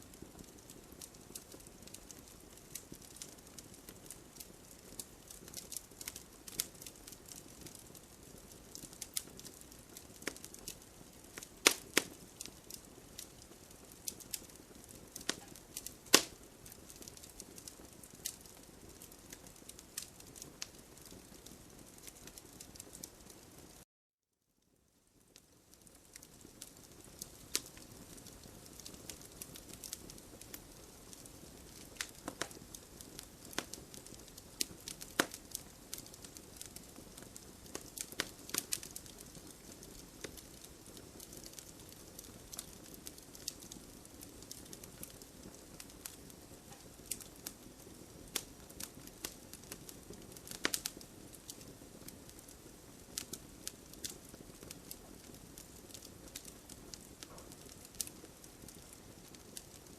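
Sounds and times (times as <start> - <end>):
wood fire crackling and popping: 0.0 - 23.8, 24.7 - 59.9.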